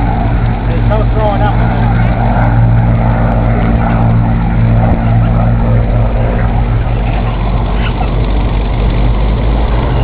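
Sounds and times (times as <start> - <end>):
piston aircraft engine droning: 0.0 - 10.0.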